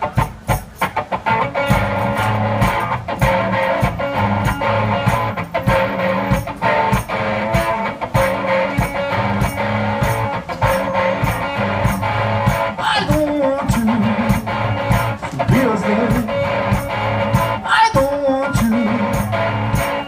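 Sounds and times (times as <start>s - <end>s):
blues guitar: 0.0s - 20.0s
drum hits: 1.6s - 18.2s.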